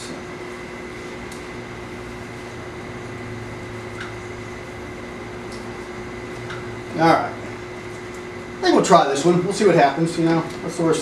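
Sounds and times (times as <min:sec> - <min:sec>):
high whine: 0:00.0 - 0:11.0.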